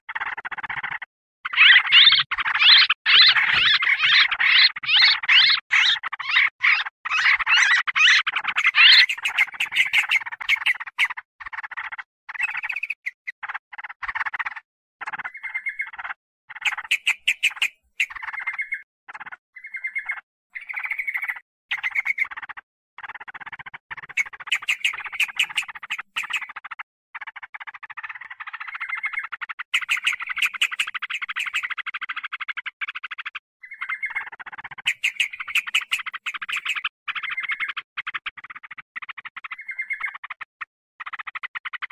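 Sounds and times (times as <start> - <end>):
bulbul chattering and bubbling calls: 0.1 - 41.9.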